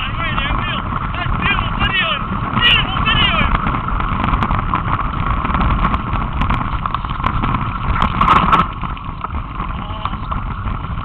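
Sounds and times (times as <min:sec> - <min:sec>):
bike rattling over trail: 0:00.0 - 0:11.0
wind rumble on microphone: 0:00.0 - 0:11.0.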